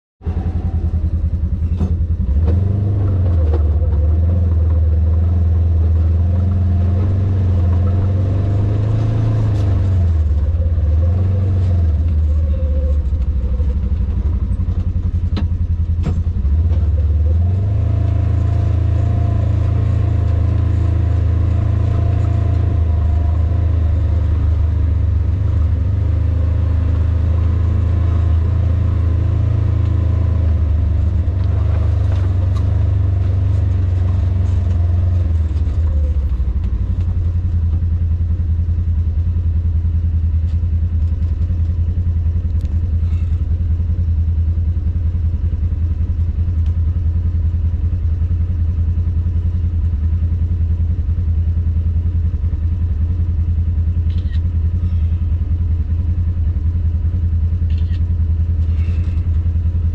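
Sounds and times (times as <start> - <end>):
vehicle engine droning: 0.2 - 59.9.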